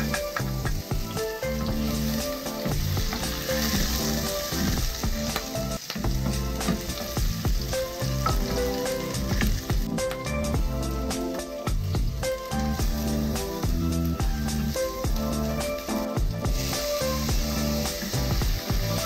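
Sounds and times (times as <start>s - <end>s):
garlic sizzling in hot oil: 0.0s - 19.0s
soft background music: 0.0s - 19.0s.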